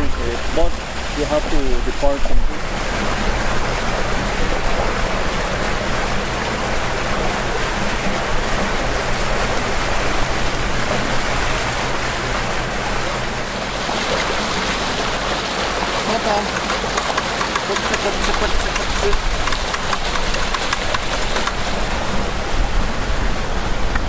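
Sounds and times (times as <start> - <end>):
low steady hum: 0.0 - 24.0
water rushing: 0.0 - 24.0.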